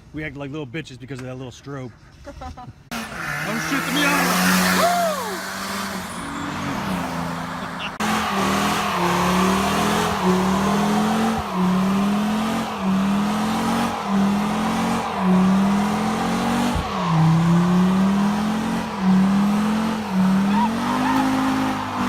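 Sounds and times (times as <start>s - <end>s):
car engine revving: 2.9s - 22.0s.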